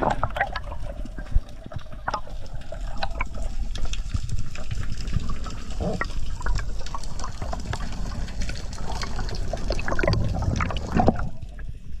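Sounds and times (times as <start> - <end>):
water sloshing and trickling: 0.0 - 11.8.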